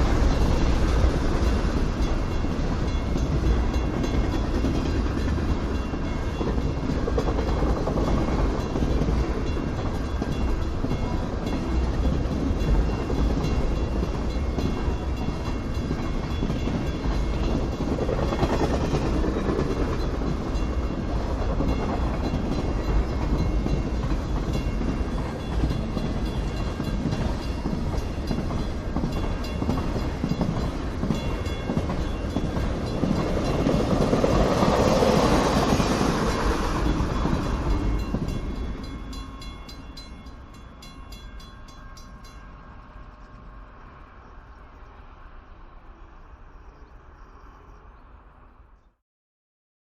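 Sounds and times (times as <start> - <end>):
freight train rumbling past: 0.0 - 48.8.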